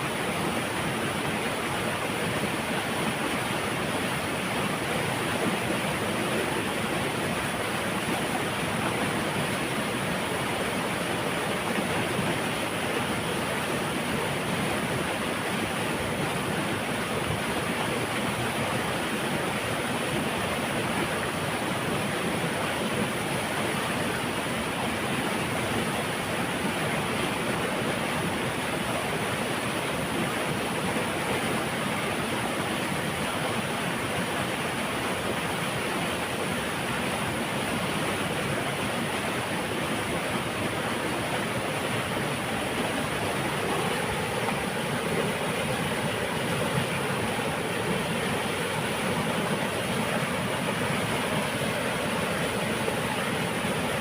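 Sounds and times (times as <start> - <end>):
water rushing through a dam: 0.0 - 54.0.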